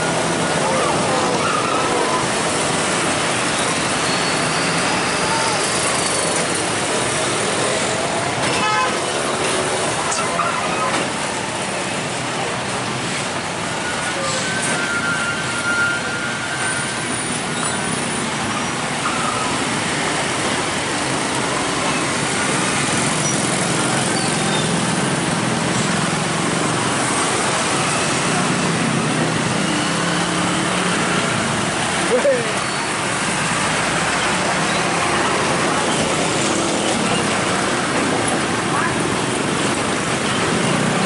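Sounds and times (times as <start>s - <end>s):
vehicles driving past: 0.0s - 41.0s.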